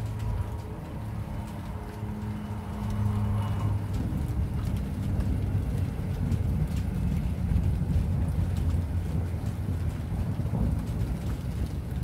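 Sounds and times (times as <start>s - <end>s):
raindrops ticking: 0.0s - 12.0s
thunder rumbling: 0.0s - 12.0s.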